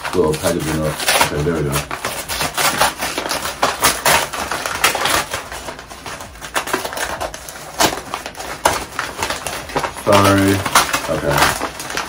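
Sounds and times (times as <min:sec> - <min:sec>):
paper crinkling: 0:00.0 - 0:12.0.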